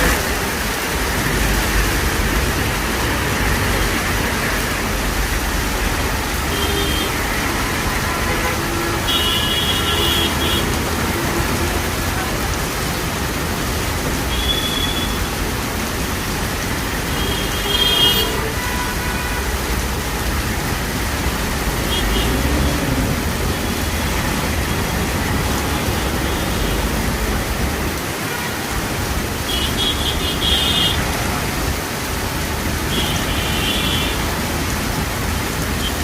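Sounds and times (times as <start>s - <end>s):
rain hiss: 0.0s - 36.0s
road traffic: 0.0s - 36.0s.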